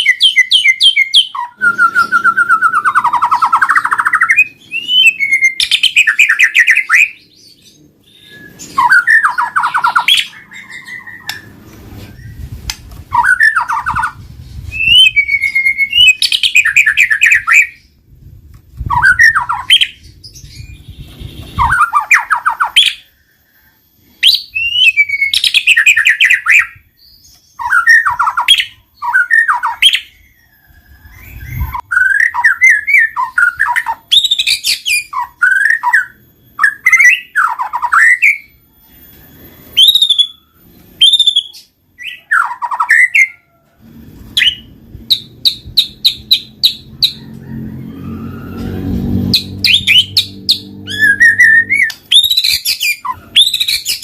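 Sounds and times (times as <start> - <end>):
songbird trills and whistles: 0.0 - 18.0, 18.8 - 43.6, 49.3 - 54.0.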